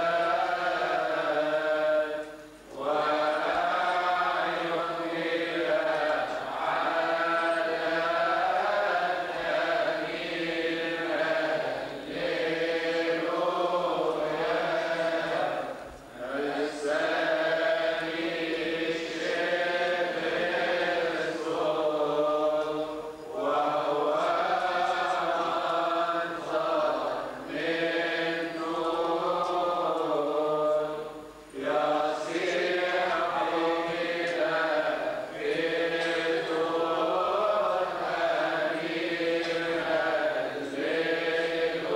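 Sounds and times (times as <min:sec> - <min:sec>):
voices chanting a hymn: 0:00.0 - 0:41.9.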